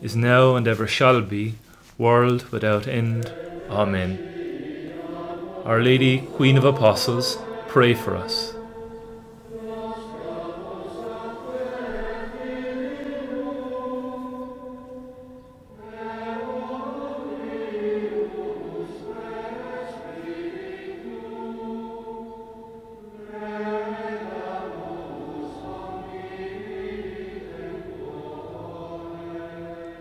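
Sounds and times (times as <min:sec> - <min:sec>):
choir singing sacred chant: 0:02.1 - 0:30.0.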